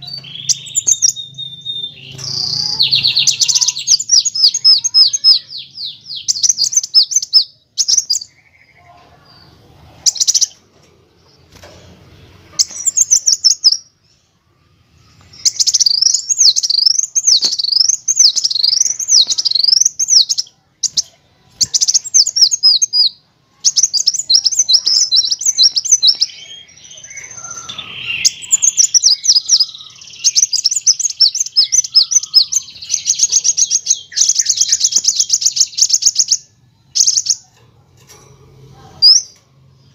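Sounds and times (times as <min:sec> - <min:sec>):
sunbird singing trills: 0:00.0 - 0:10.6, 0:12.5 - 0:14.3, 0:15.0 - 0:37.5.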